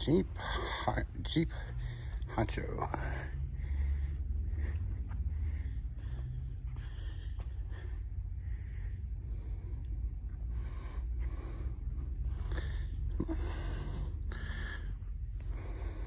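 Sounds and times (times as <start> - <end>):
person breathing: 0.0 - 16.0
steady low hum: 0.0 - 16.0.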